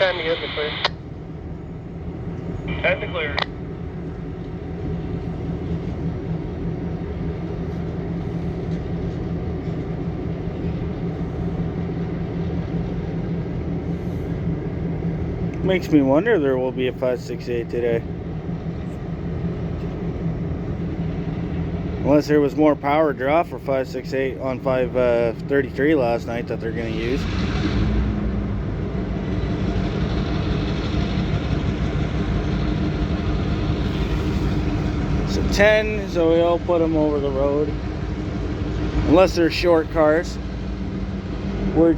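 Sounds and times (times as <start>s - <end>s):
faint steady hum: 0.0s - 27.2s, 31.5s - 41.9s
diesel locomotive rumbling: 0.0s - 41.9s.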